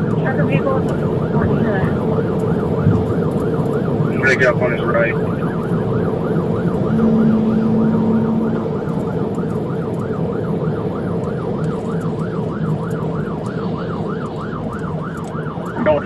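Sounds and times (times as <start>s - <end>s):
police siren yelp: 0.0s - 16.0s.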